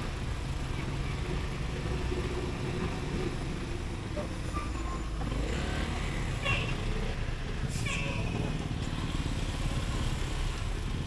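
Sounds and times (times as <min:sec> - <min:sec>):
city traffic: 0:00.0 - 0:11.0
wind and road noise: 0:00.0 - 0:11.0.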